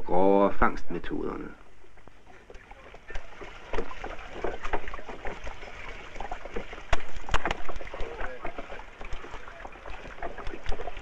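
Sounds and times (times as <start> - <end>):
water dripping: 1.4 - 11.0
eels splashing and slapping: 1.9 - 11.0.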